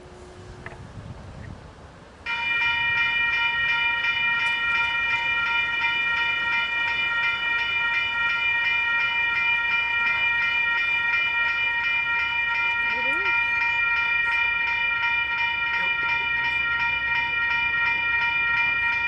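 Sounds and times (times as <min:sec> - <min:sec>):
railroad crossing bell ringing: 0:02.2 - 0:19.0.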